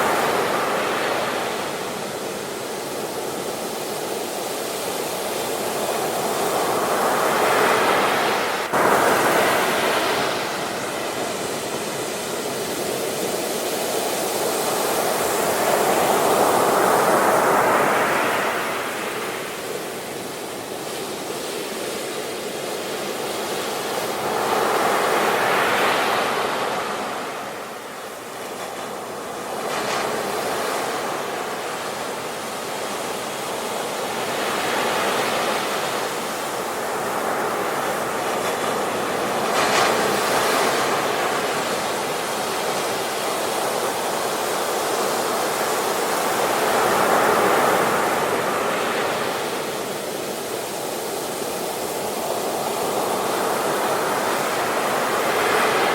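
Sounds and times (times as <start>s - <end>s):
sea waves breaking: 0.0s - 55.9s.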